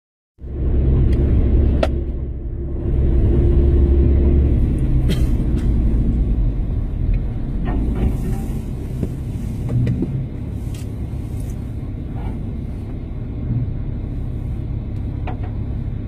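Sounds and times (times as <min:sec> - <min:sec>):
engine low rumble: 0:00.4 - 0:16.0.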